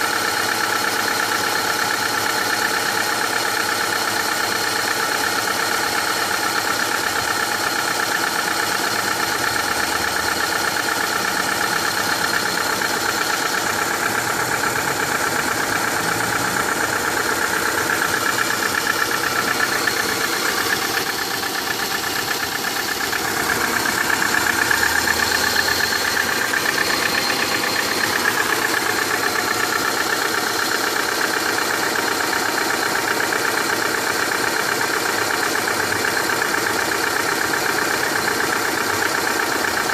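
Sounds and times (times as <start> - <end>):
engine knocking: 0.0 - 39.9.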